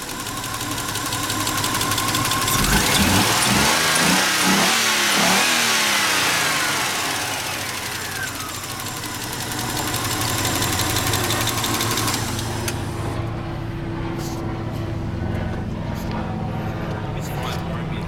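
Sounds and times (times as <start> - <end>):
car engine revving and idling: 0.0 - 17.3.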